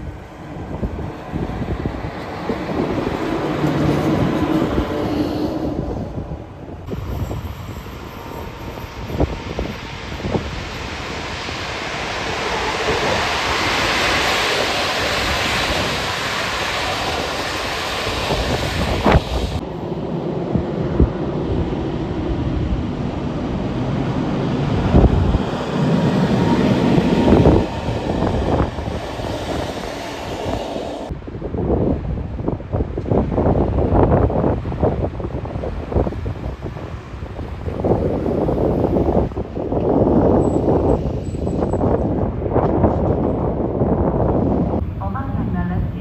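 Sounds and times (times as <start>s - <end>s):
passenger train rolling on rails: 0.0s - 46.0s
wind buffeting the microphone: 0.0s - 46.0s.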